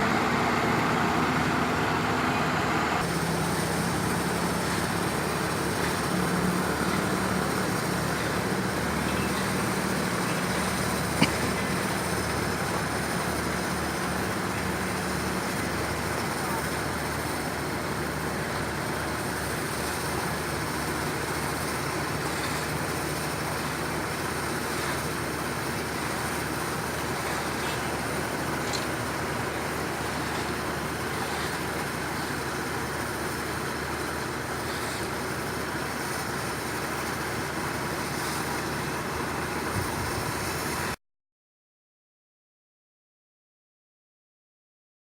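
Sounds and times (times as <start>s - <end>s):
heavy machinery engines running: 0.0s - 41.0s.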